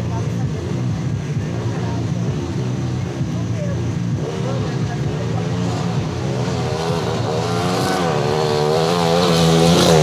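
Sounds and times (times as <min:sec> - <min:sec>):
motorcycle engine revving: 0:00.0 - 0:10.0
motorcycle engines idling: 0:00.0 - 0:10.0.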